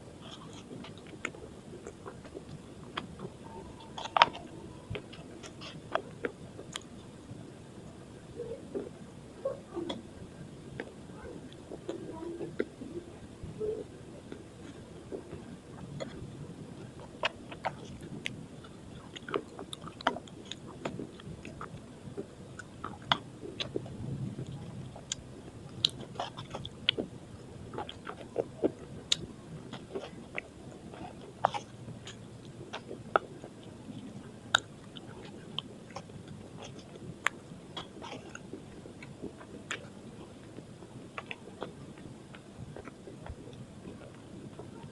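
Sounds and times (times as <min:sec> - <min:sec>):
biting and chewing brittle pencils: 0:00.2 - 0:07.1, 0:13.7 - 0:44.9.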